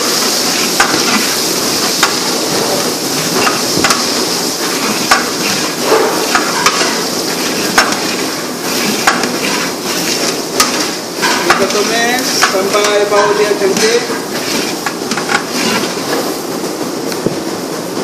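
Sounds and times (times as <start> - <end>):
ladle scraping and knocking pot: 0.0 - 16.4
onion and garlic sizzling in oil: 0.0 - 16.6.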